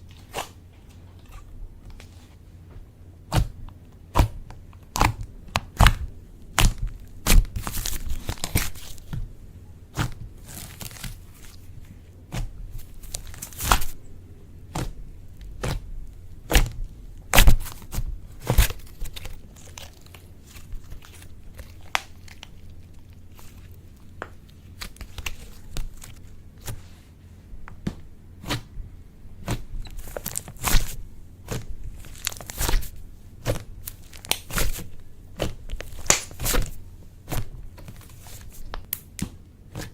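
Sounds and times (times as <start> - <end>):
slime squishing with pops: 3.2 - 14.0, 14.6 - 26.9, 29.4 - 39.9.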